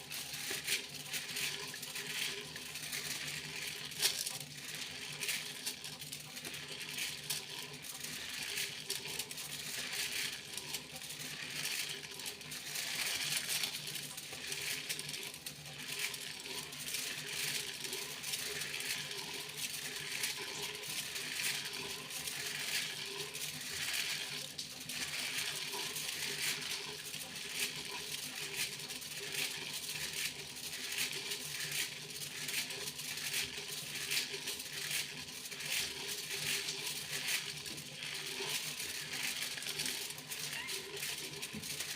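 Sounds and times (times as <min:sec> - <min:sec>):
foil crinkling: 0:00.0 - 0:41.9.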